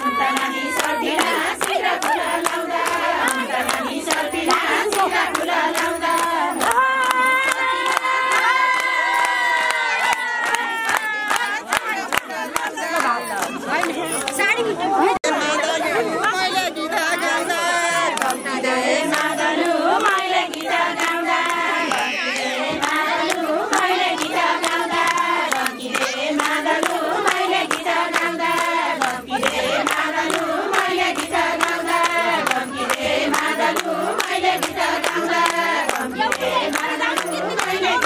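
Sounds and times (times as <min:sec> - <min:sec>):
women singing folk song: 0:00.0 - 0:14.4, 0:15.2 - 0:38.0
rhythmic hand clapping: 0:00.0 - 0:14.7, 0:16.2 - 0:38.0.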